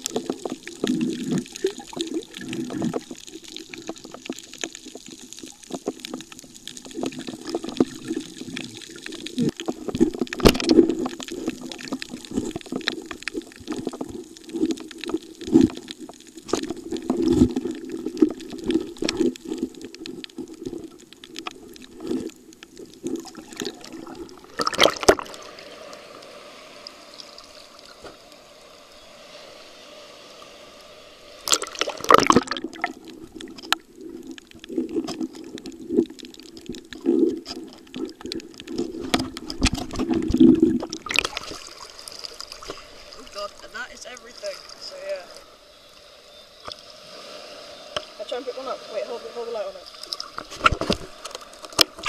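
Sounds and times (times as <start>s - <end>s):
underwater clicks and crackles: 0.0s - 28.5s, 31.4s - 45.6s, 46.6s - 46.9s, 47.9s - 52.0s
muffled underwater rush: 0.0s - 52.0s.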